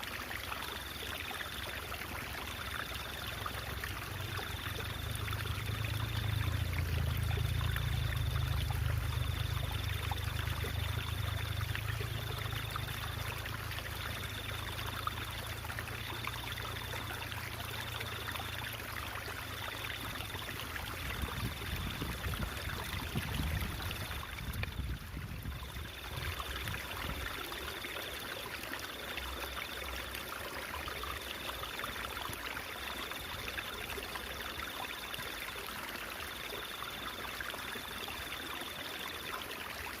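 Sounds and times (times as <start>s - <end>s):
stream water babbling: 0.0s - 40.0s.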